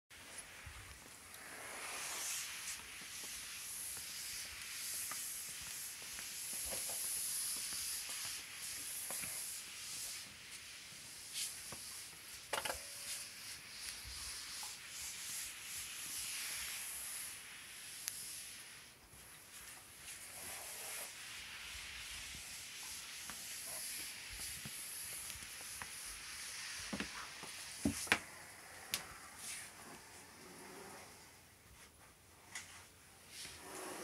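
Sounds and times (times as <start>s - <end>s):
cat scratching and rubbing: 1.3s - 31.4s.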